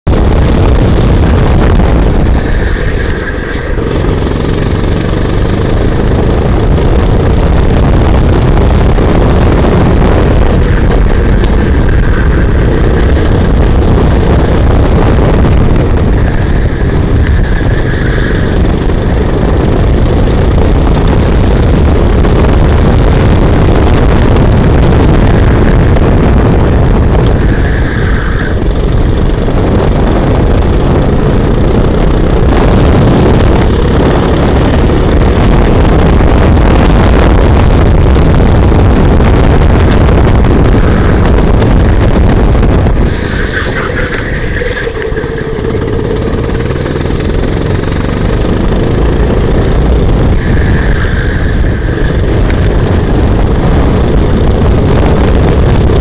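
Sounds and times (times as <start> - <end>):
wind rushing over microphone: 0.0 - 56.0
go-kart engine running hard: 0.1 - 56.0.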